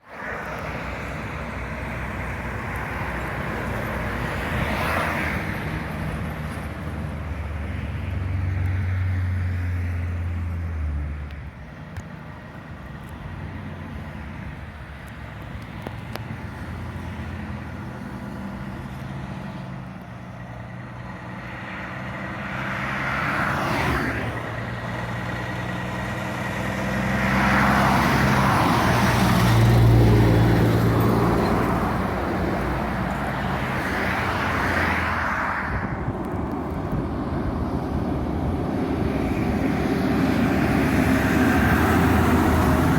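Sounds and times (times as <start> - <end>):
diesel trucks driving past: 0.0 - 42.9.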